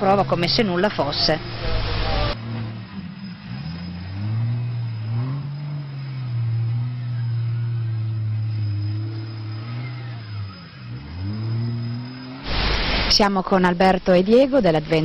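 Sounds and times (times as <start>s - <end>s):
engine running at high revs: 0.0s - 13.2s.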